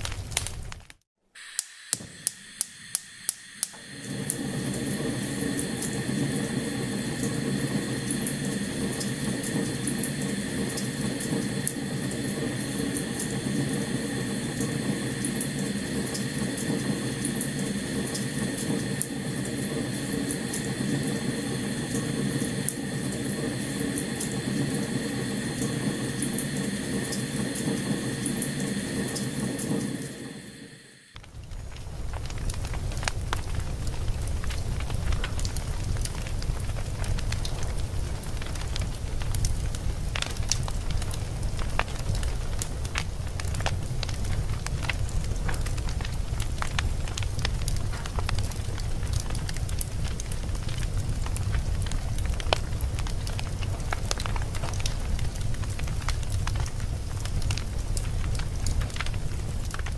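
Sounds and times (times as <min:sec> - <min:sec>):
fire roaring and crackling: 0:00.0 - 0:01.0, 0:02.2 - 0:59.9.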